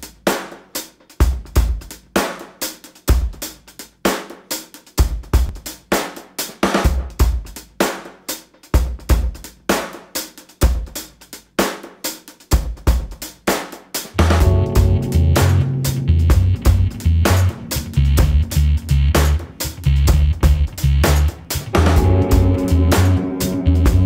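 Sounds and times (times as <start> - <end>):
drum kit playing a beat: 0.0 - 24.0.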